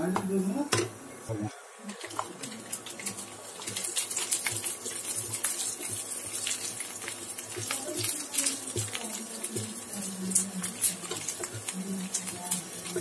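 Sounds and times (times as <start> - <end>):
spices sizzling in hot oil: 1.6 - 13.0
wooden spatula stirring: 1.8 - 13.0.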